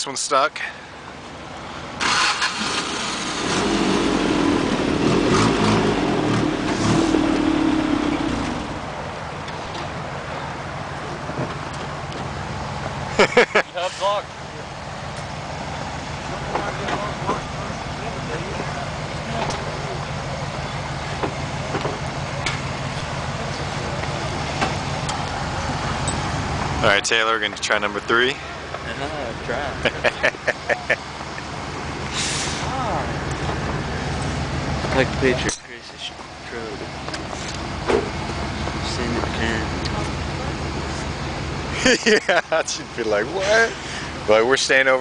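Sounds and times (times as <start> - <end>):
truck engine revving: 1.9 - 45.0.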